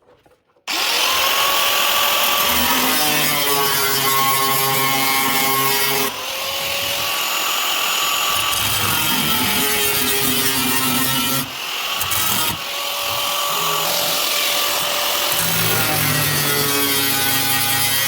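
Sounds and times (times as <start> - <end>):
power tool motor whining: 0.7 - 18.0.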